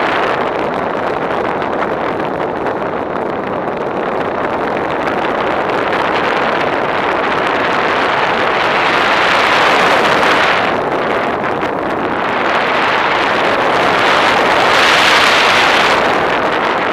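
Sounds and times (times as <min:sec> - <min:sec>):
wind rushing over microphone: 0:00.0 - 0:16.9.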